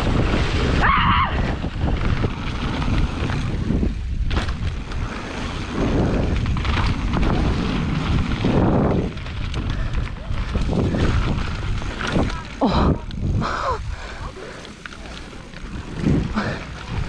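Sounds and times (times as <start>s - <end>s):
wind on microphone: 0.0s - 14.4s, 15.6s - 17.0s
bike tyres on dirt trail: 0.0s - 17.0s.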